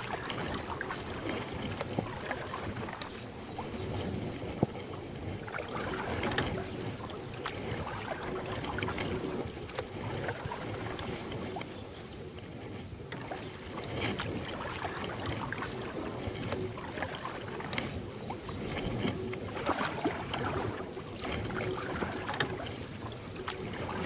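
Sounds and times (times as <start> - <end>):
water splashing and dripping: 0.0 - 11.8, 13.1 - 24.0
paddle strokes splashing: 0.0 - 24.0.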